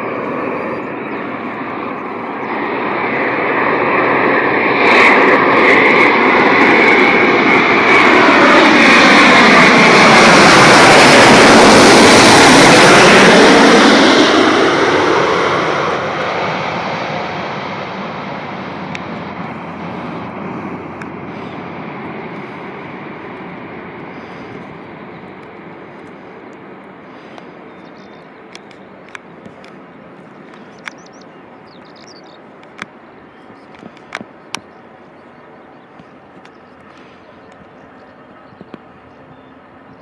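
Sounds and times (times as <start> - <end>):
jet airliner passing: 0.0 - 40.0.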